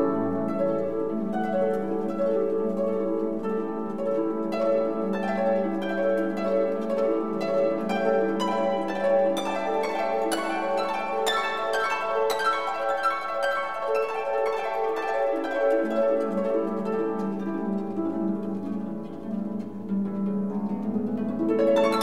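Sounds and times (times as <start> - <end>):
harp-like plucked melody: 0.0 - 22.0.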